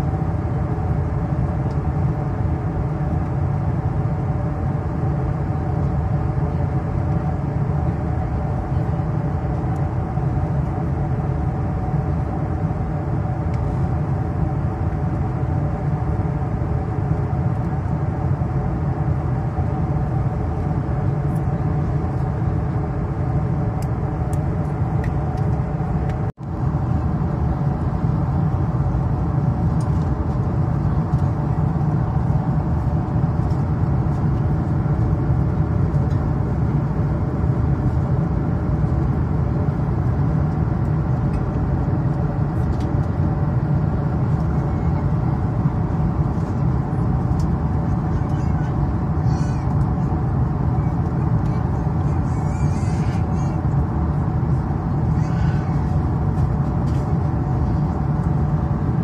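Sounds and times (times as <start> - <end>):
airliner cabin engine rush: 0.0 - 59.0.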